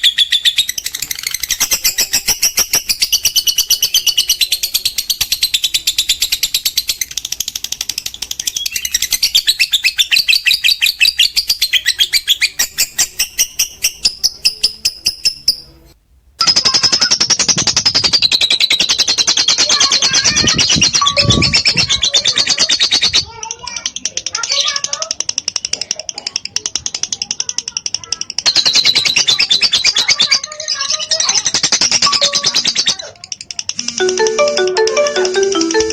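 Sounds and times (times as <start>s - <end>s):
lovebird chattering: 0.0s - 15.7s, 16.4s - 35.4s.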